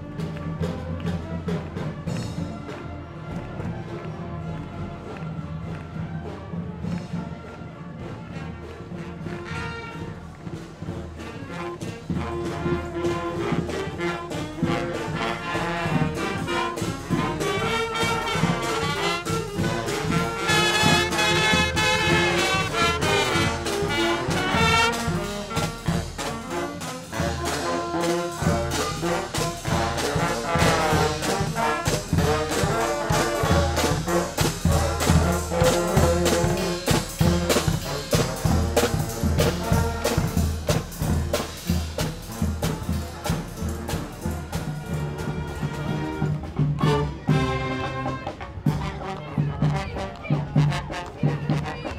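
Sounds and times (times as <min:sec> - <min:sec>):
brass band playing: 0:00.0 - 0:51.9
steady drum beat: 0:09.0 - 0:51.9.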